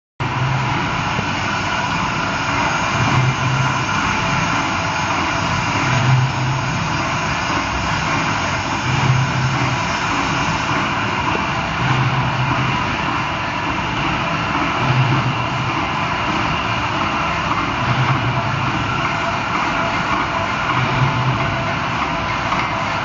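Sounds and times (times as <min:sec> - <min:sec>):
lathe machine running: 0:00.2 - 0:23.0
low machine hum: 0:00.2 - 0:23.0.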